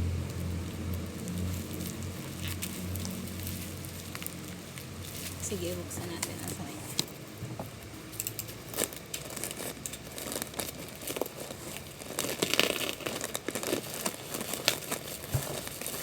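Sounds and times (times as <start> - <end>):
packaging crinkling and tearing: 0.1 - 7.3, 8.2 - 16.0.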